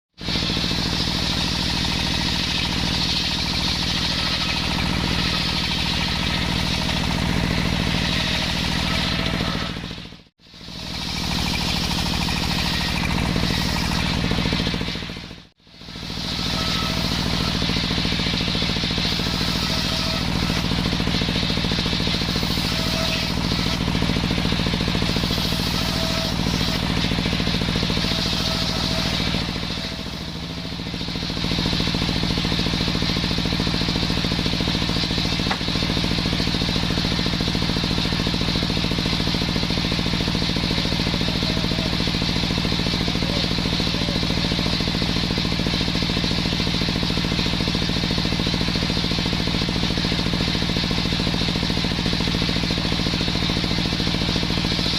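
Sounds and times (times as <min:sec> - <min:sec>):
circular saw engine running: 0:00.2 - 0:54.9.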